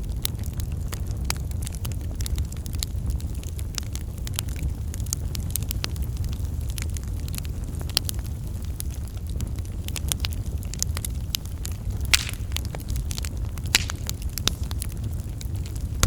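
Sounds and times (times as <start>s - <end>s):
campfire flames rumbling: 0.0s - 16.0s
wood crackling and popping: 0.0s - 16.0s.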